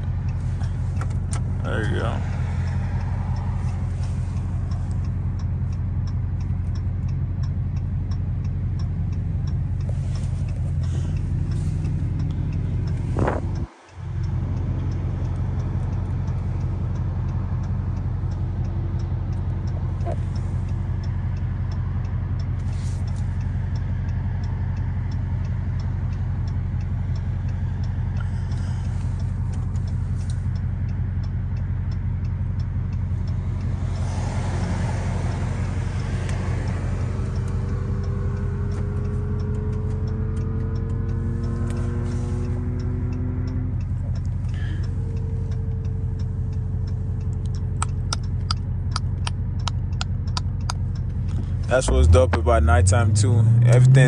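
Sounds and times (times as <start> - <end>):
car engine running: 0.0 - 54.0
light regular ticking: 0.0 - 54.0.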